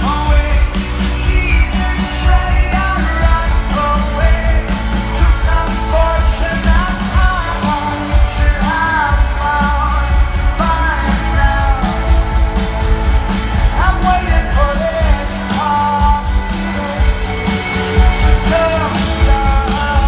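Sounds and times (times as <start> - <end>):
lead vocals: 0.0 - 20.0
live rock band playing: 0.0 - 20.0.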